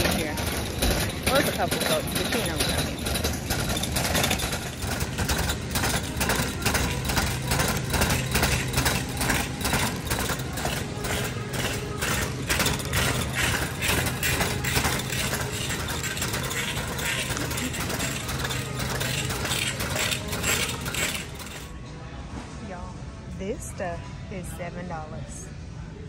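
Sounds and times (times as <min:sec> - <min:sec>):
shopping cart wheel clattering: 0:00.0 - 0:21.7
steady low hum: 0:00.0 - 0:26.0.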